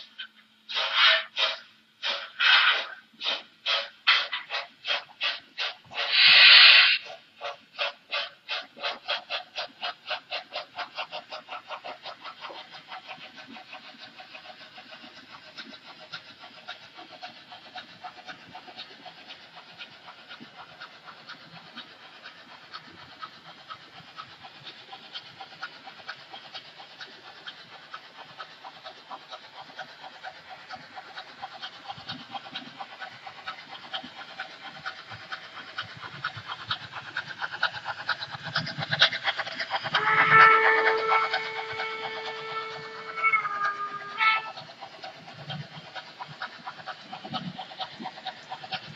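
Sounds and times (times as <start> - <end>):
steam hiss: 0.0 - 48.9
steam locomotive chuffing: 0.0 - 48.9.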